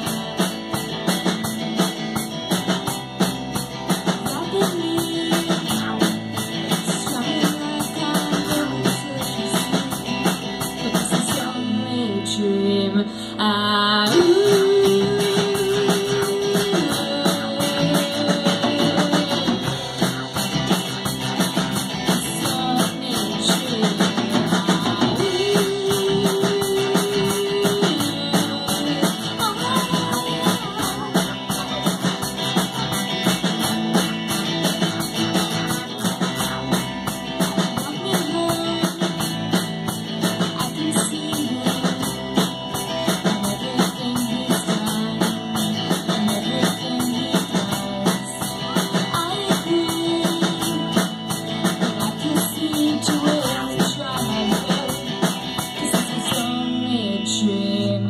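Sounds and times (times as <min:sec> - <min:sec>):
drum kit beat: 0:00.0 - 0:12.1, 0:14.0 - 0:57.2
electric guitars: 0:00.0 - 0:58.0.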